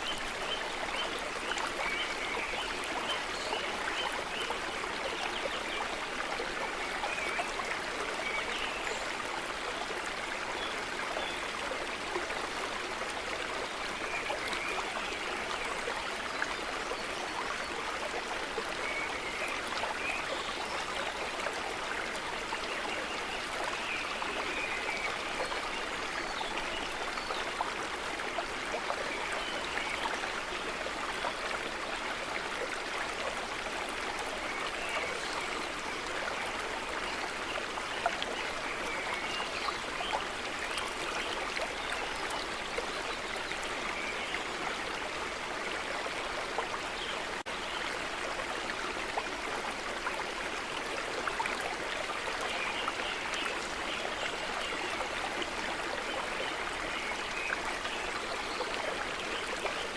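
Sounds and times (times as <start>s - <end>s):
stream rushing and trickling: 0.0s - 59.9s.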